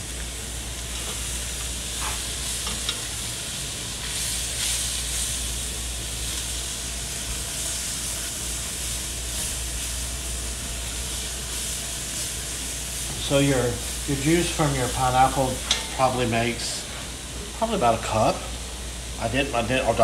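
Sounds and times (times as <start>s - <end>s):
vegetables sizzling in pot: 0.0s - 20.0s.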